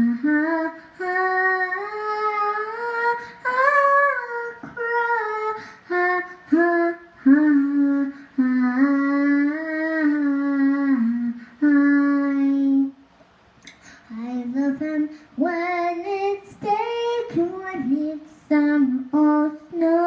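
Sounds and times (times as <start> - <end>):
girl singing alone: 0.0 - 20.0.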